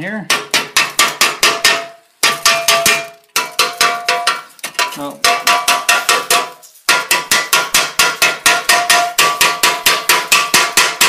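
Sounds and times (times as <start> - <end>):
hammer tapping on steel: 0.3 - 11.0.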